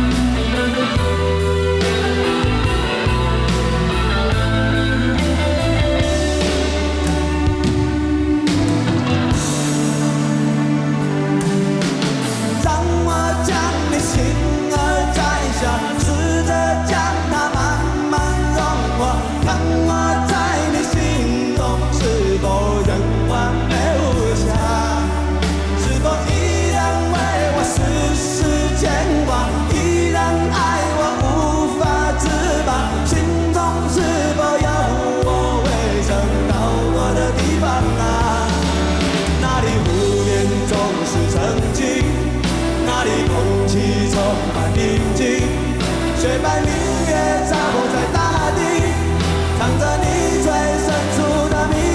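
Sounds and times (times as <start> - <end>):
live rock band playing ballad: 0.0 - 51.9
person singing: 0.0 - 51.9.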